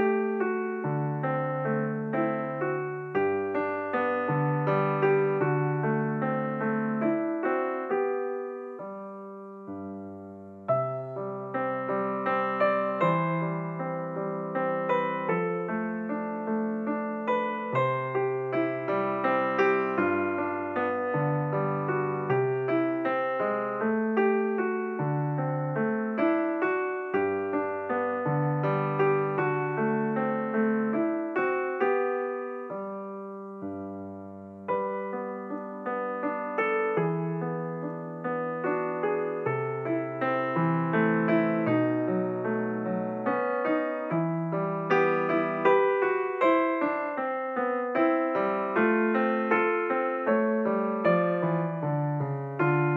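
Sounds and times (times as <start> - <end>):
piano music: 0.0 - 52.9.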